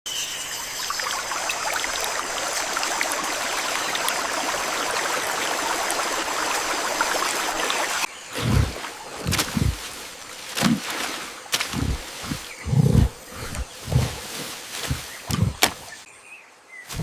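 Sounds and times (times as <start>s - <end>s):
rushing stream water: 0.2s - 17.0s.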